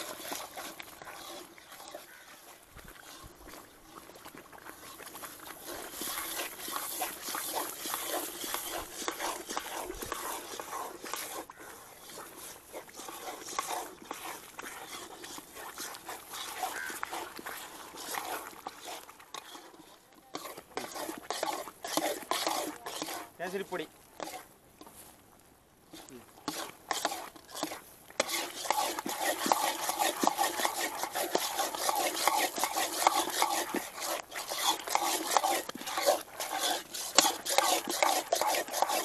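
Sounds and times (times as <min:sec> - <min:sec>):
ladle scraping pan: 0:00.0 - 0:25.0, 0:25.9 - 0:39.0
mixture bubbling and crackling in oil: 0:00.0 - 0:25.0, 0:25.8 - 0:39.0.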